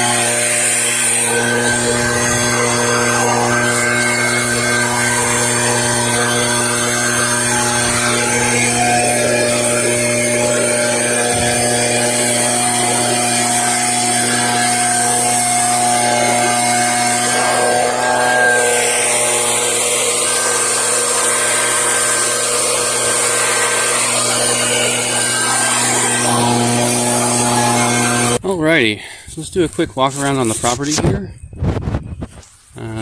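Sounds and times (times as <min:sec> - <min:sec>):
leaf blower running: 0:00.0 - 0:29.3.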